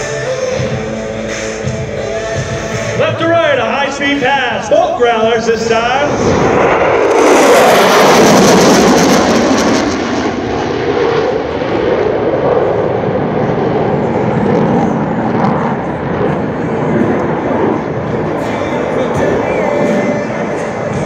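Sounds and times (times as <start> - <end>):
jet flying past: 3.0 - 21.0.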